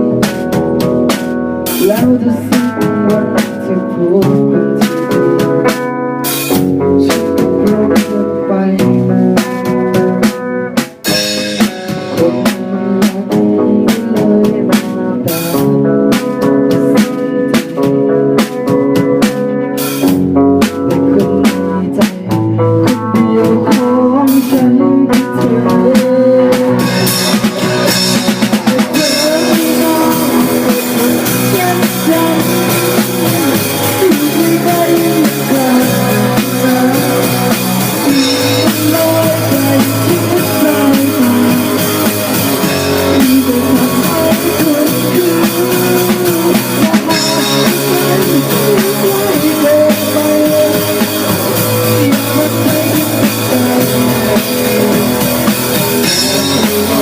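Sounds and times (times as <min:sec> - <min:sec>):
drum kit: 0:00.0 - 0:57.0
electric guitar: 0:00.0 - 0:57.0
person singing: 0:01.6 - 0:57.0.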